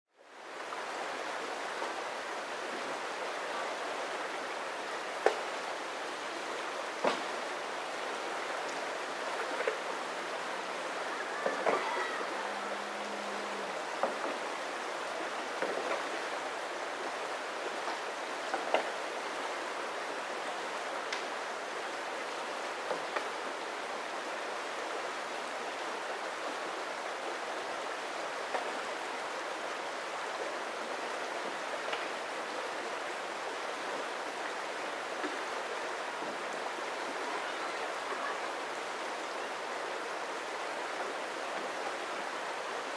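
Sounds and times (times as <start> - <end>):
river running over rocks: 0.2 - 42.9.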